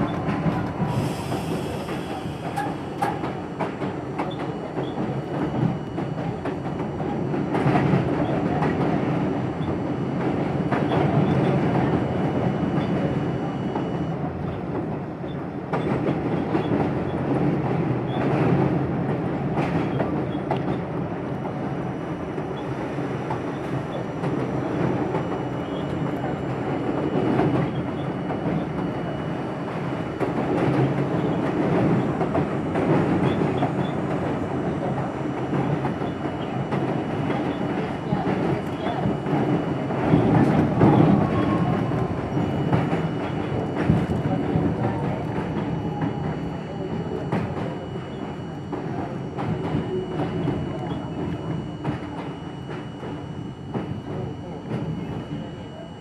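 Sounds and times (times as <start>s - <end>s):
rumble of wheels on rail: 0.0s - 56.0s.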